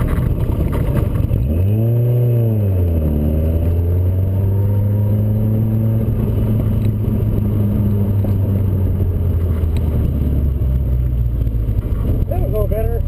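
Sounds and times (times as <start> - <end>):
car engine droning: 0.0 - 13.0
wind noise: 0.0 - 13.0.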